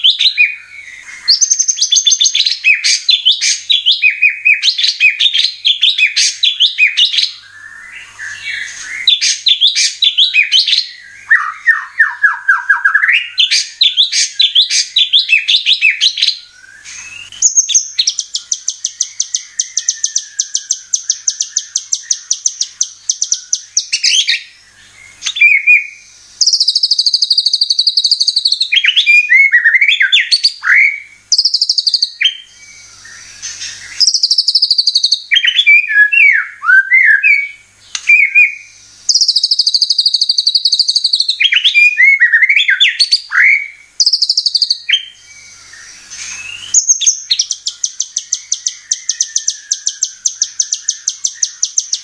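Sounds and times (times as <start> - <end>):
bird song with trills and whistles: 0.0 - 52.0.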